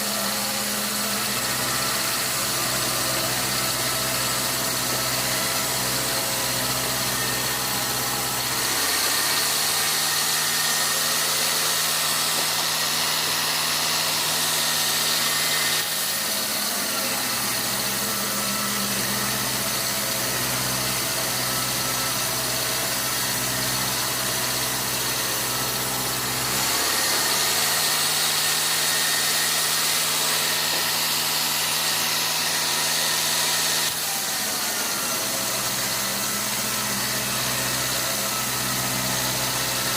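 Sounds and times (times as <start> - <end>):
sawmill machinery engine running: 0.0 - 39.9.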